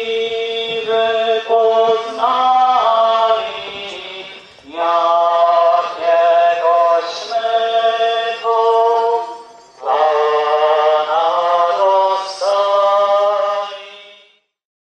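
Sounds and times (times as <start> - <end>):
slow church hymn singing: 0.0 - 14.5.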